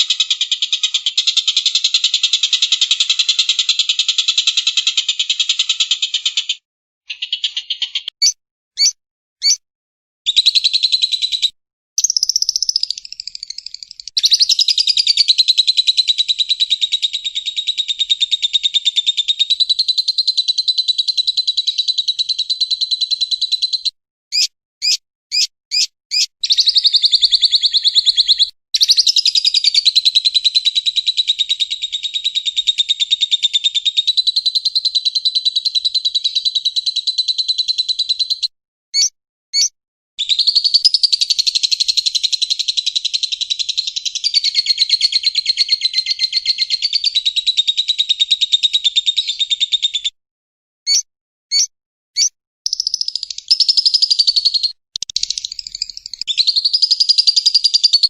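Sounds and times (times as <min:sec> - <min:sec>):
songbird trilling: 0:07.1 - 0:09.6, 0:10.3 - 0:50.1, 0:50.9 - 0:58.0.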